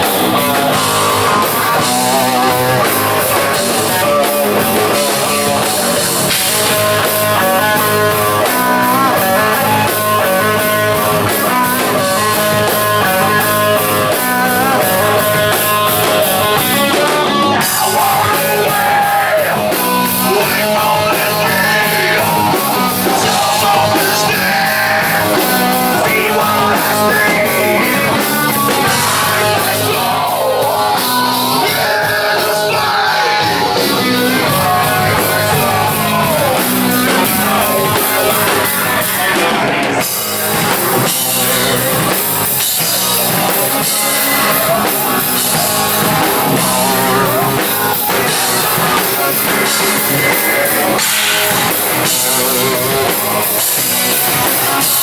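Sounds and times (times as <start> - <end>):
electric guitar: 0.0 - 55.0
heavy rock band playing: 0.0 - 55.0
pounding drum kit: 0.0 - 55.0.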